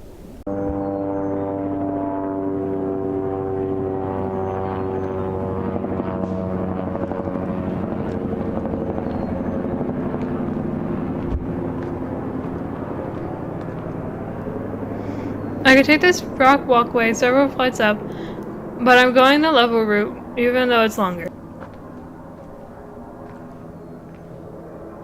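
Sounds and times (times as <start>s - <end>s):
aircraft engine droning overhead: 0.0s - 25.0s.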